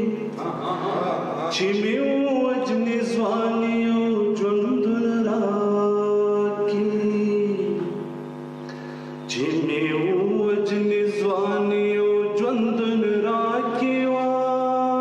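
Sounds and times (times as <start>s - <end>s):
man singing into a microphone: 0.0s - 0.3s, 1.5s - 8.1s, 9.3s - 15.0s.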